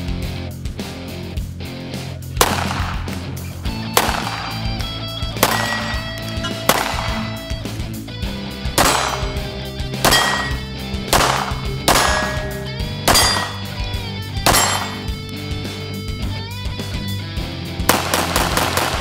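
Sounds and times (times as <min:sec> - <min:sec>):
music with sustained chords: 0:00.0 - 0:19.0.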